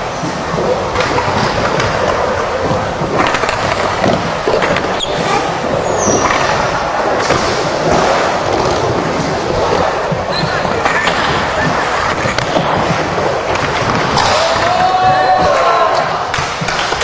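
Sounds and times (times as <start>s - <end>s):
skateboard wheels rolling: 0.0s - 17.0s.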